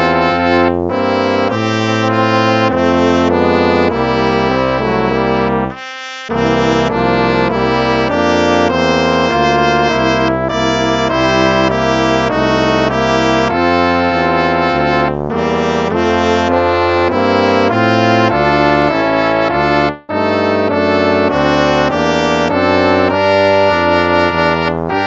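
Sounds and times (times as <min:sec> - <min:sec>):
hymn played on brass: 0:00.0 - 0:25.0.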